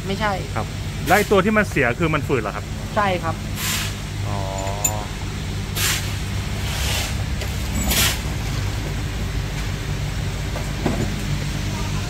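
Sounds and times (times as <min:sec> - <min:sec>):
low mechanical motor hum: 0:00.0 - 0:12.0.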